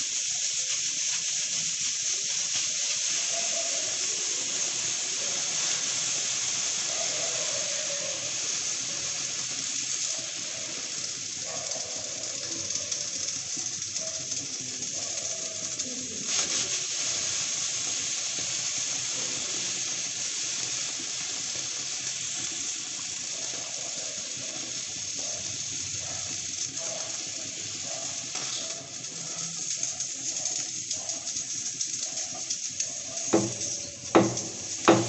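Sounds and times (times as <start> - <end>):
pressure cooker steam hissing: 0.0 - 35.0
water spraying around lid: 0.0 - 35.0.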